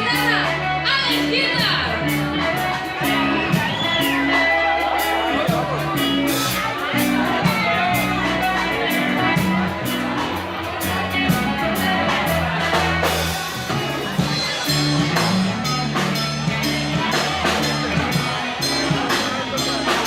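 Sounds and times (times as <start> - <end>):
bass line: 0.0 - 20.0
drum kit: 0.0 - 20.0
guitar: 0.0 - 20.0.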